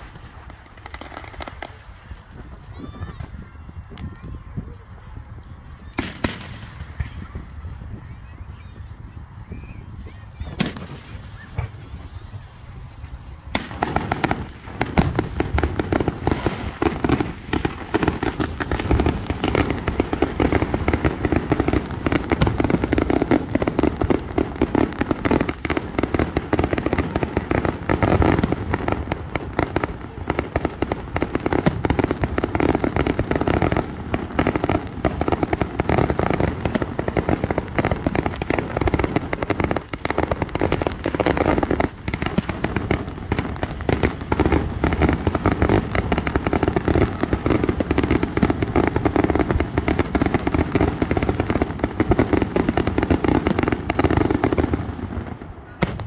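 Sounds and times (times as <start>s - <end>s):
fireworks launching and bursting: 0.0s - 5.1s, 5.7s - 8.2s, 8.8s - 56.0s.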